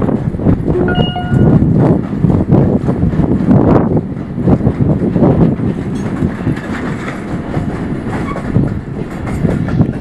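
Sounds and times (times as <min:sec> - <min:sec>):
freight train rumbling: 0:00.0 - 0:10.0
wheels clattering over rail joints: 0:00.0 - 0:10.0.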